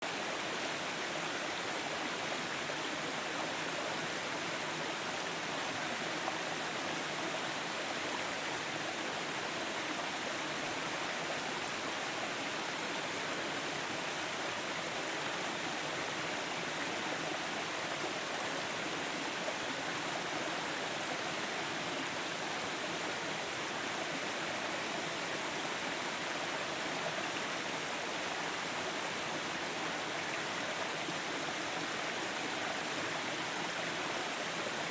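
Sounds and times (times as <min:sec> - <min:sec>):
stream water rushing and babbling: 0:00.0 - 0:34.9.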